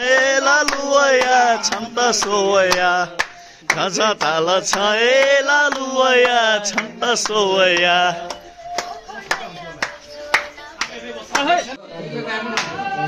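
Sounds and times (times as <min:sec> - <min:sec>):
hand claps: 0:00.0 - 0:11.6, 0:12.6 - 0:12.8
person singing chant-like song: 0:00.0 - 0:13.0.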